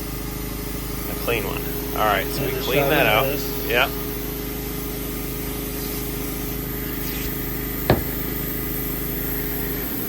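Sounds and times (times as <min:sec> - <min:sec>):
electric motor humming: 0:00.9 - 0:09.4.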